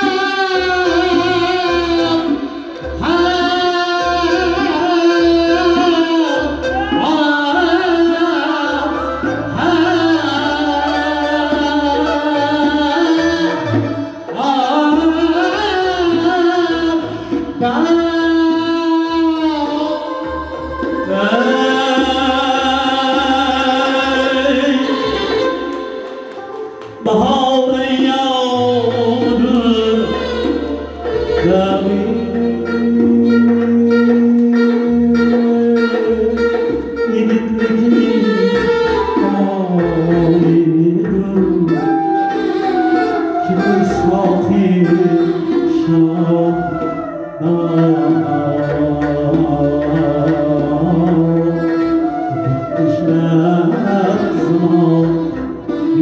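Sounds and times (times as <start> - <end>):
man singing into a microphone: 0.0 - 26.2, 26.9 - 56.0.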